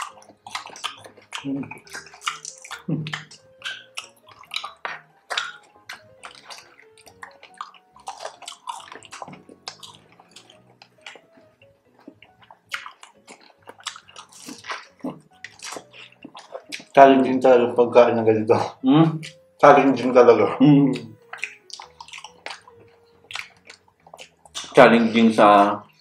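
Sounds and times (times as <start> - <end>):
mouth smacking: 0.0 - 17.0, 18.7 - 19.5, 20.6 - 24.8
crispy food crunching: 0.0 - 17.6, 20.8 - 25.9
light background music: 0.0 - 26.0.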